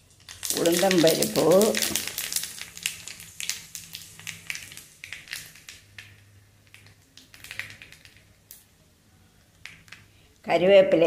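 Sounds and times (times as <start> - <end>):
seeds popping in hot oil: 0.0 - 10.5.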